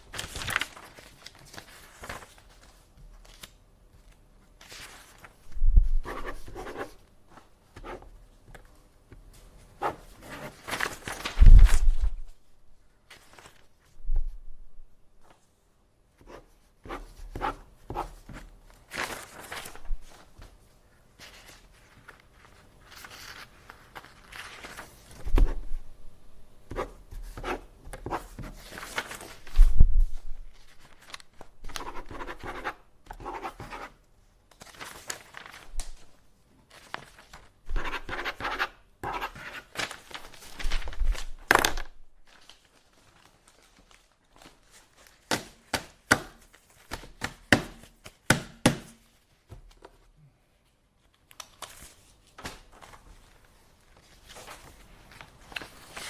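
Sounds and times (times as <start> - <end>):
paper rustling: 0.0 - 14.4, 16.2 - 25.9, 26.7 - 48.2, 51.0 - 56.0.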